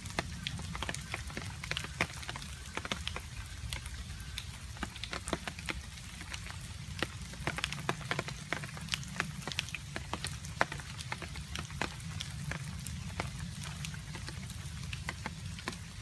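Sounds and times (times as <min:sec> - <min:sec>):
rain low rumble: 0:00.0 - 0:16.0.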